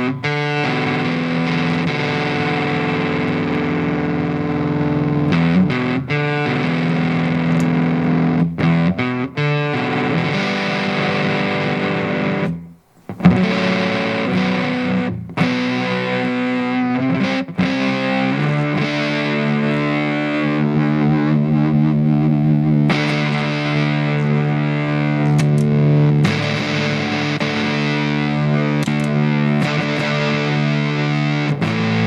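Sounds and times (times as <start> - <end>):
distorted electric guitar chords: 0.0 - 32.0.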